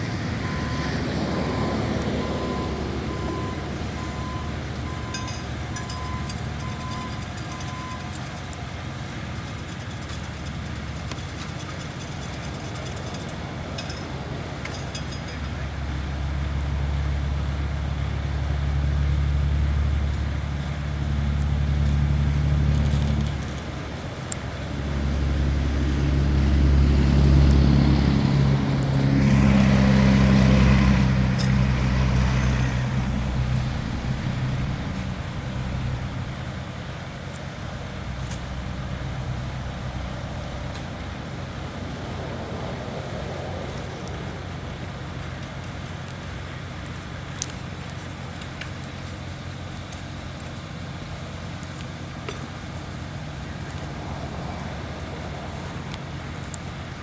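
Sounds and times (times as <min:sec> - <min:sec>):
vehicle engines running: 0:00.0 - 0:57.0.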